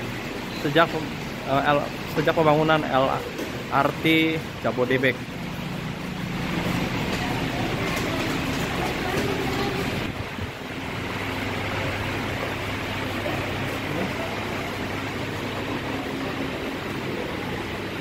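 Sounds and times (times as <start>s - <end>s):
station ambient rumble: 0.0s - 18.0s.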